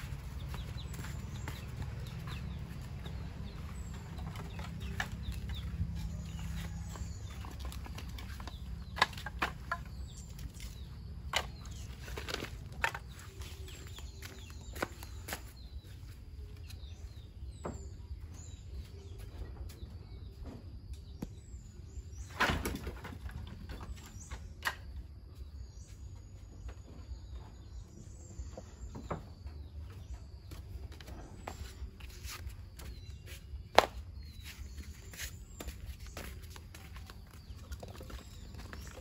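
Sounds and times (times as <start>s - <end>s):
faint birds chirping: 0.0s - 39.0s.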